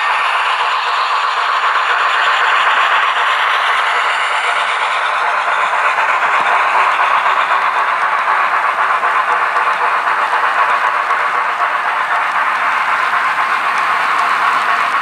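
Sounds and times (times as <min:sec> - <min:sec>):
model train cars rattling on track: 0:00.0 - 0:15.0.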